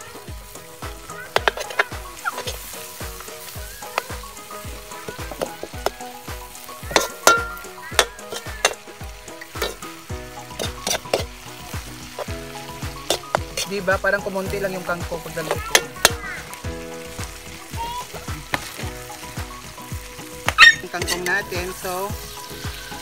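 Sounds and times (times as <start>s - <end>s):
greens sizzling in a wok: 0.0s - 23.0s
metal ladle scraping wok: 0.1s - 17.1s, 18.5s - 21.5s.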